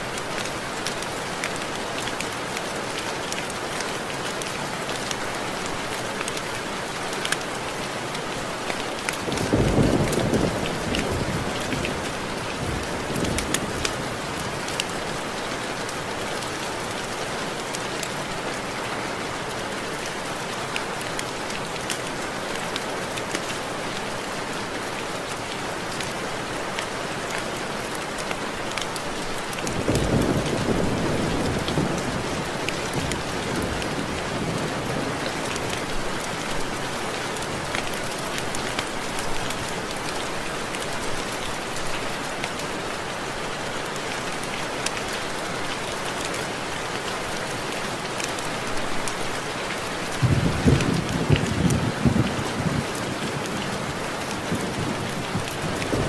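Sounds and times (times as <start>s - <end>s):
rain on window glass: 0.0s - 42.7s, 43.6s - 56.0s.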